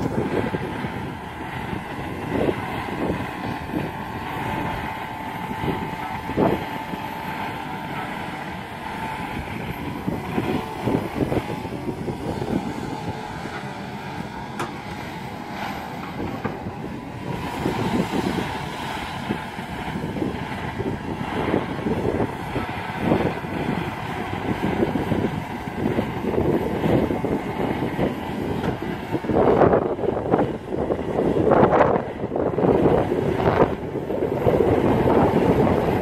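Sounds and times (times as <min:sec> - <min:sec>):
excavator engine whining: 0:00.0 - 0:36.0.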